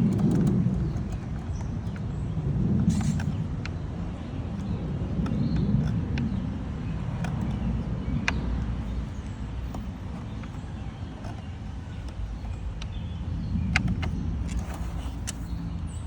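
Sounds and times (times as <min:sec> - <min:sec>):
sharp clicks of plastic screws: 0:00.0 - 0:15.8
steady low rumble: 0:00.0 - 0:16.0.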